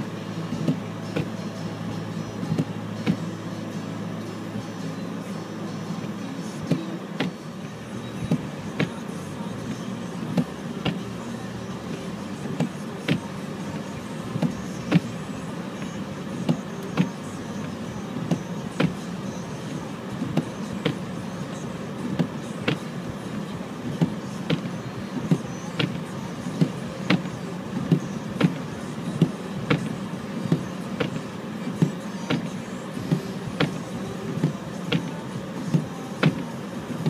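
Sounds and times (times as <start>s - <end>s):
car engine and road hum: 0.0s - 37.0s.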